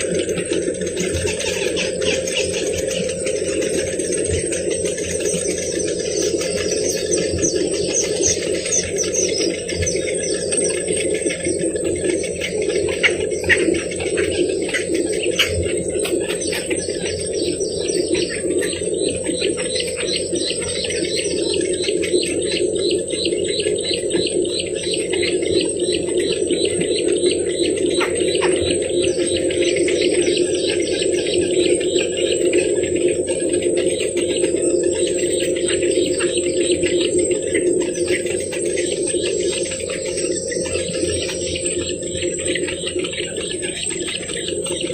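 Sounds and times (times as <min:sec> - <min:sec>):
birds chattering: 0:00.0 - 0:44.9
low background drone: 0:00.0 - 0:44.9
steady high whine: 0:00.0 - 0:44.9.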